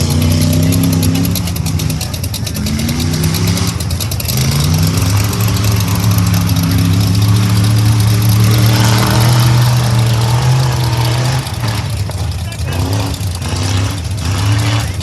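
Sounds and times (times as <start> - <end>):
truck engine accelerating hard: 0.0 - 15.0.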